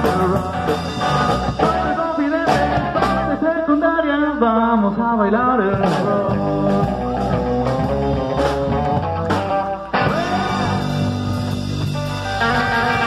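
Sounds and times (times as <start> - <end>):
upright double bass: 0.0 - 3.4, 5.3 - 13.0
electric guitar: 0.0 - 13.0
live rock and roll band: 0.0 - 13.0.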